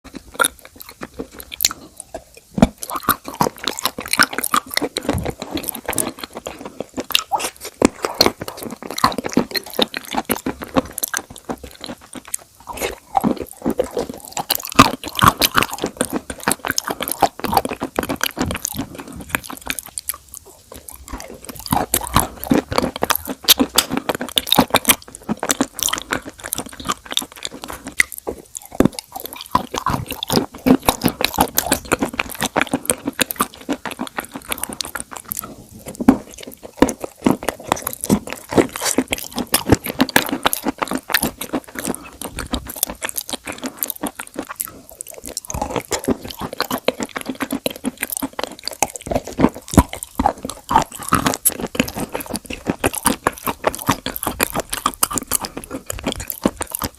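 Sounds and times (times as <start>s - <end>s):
crunchy food being chewed: 0.0s - 56.9s.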